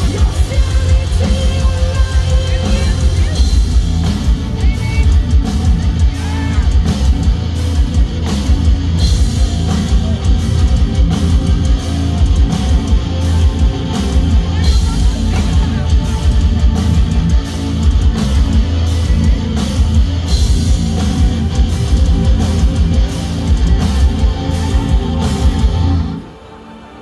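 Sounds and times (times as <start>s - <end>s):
heavy metal band playing live: 0.0s - 27.0s.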